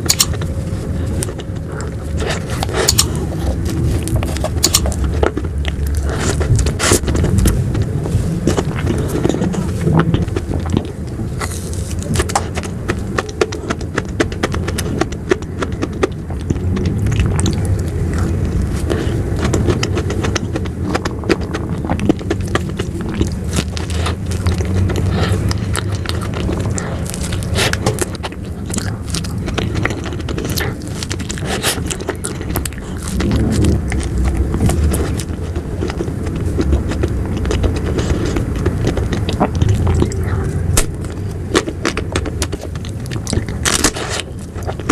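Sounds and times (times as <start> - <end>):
low rumble: 0.0 - 44.9
wet mouth clicks and smacks: 0.0 - 44.9.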